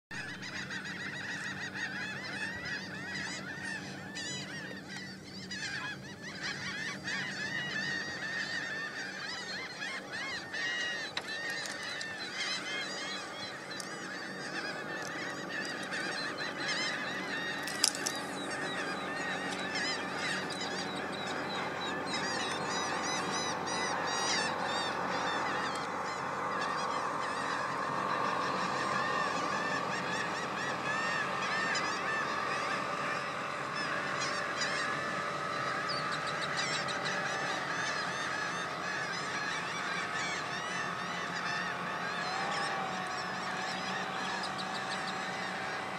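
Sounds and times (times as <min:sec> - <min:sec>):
gulls and terns calling: 0:00.1 - 0:45.9.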